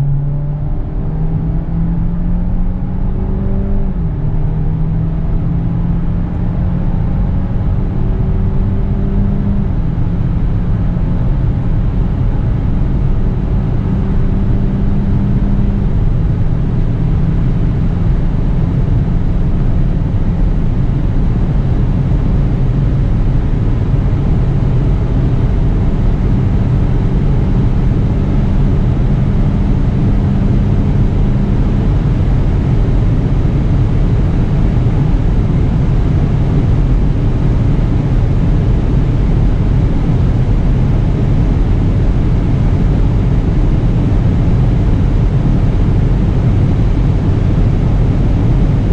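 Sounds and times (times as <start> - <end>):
car engine accelerating: 0.0 - 48.9
wind and road noise: 0.0 - 48.9.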